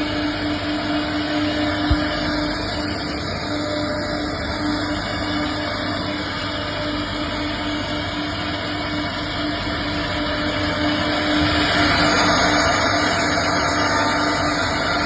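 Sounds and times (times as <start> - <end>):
wood router running: 0.0 - 15.0.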